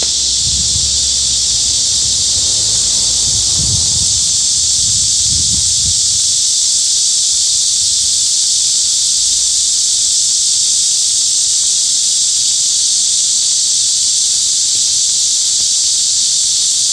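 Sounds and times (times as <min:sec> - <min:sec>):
cicadas buzzing: 0:00.0 - 0:16.9.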